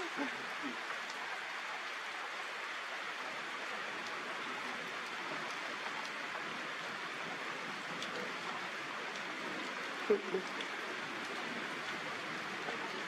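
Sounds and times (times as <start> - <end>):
faint raindrop ticks: 0.0 - 13.0
steady rain hissing: 0.0 - 13.0.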